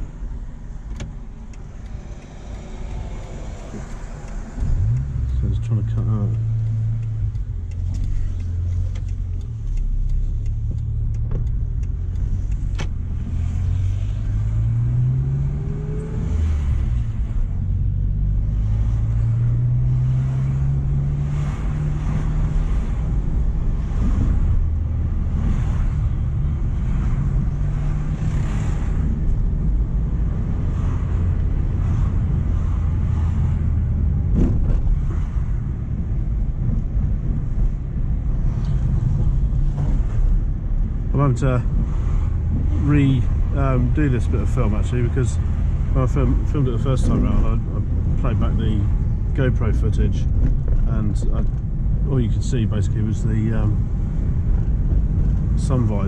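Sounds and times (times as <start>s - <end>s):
car engine accelerating: 0.0s - 56.0s
road noise: 0.0s - 56.0s.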